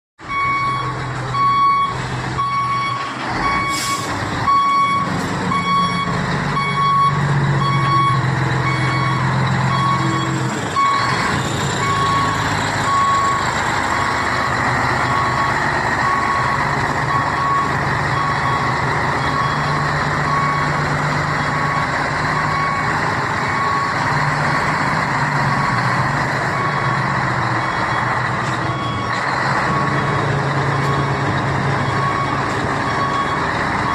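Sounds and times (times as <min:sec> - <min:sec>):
diesel truck engine running: 0:00.2 - 0:33.9
reversing alarm beeping: 0:00.3 - 0:24.1, 0:25.4 - 0:33.9.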